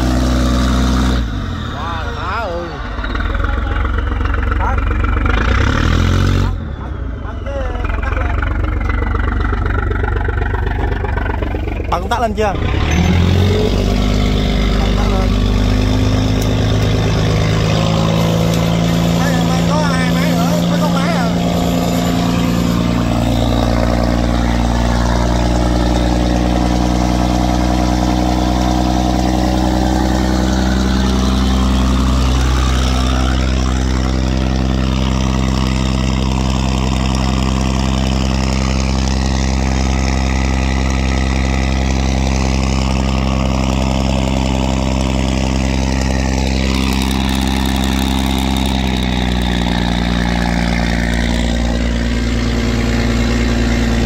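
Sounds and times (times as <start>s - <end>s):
barge engine running: 0.0s - 54.0s.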